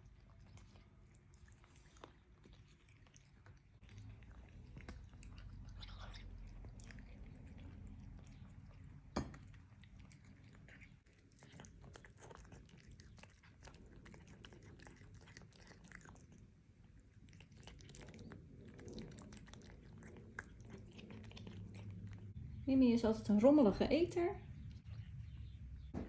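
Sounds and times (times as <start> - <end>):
cat chewing and crunching fish: 0.0 - 22.6, 24.4 - 26.0.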